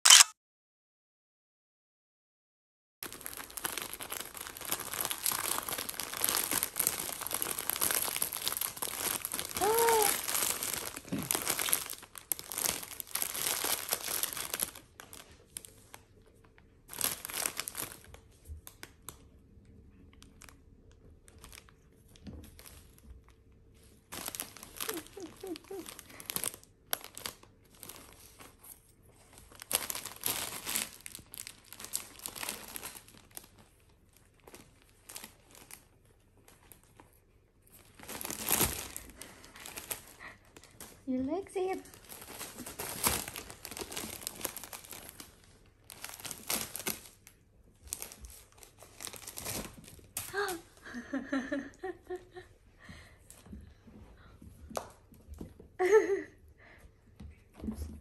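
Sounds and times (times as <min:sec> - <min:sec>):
gift wrapping crinkling and tearing: 0:03.0 - 0:19.3, 0:20.1 - 0:52.2.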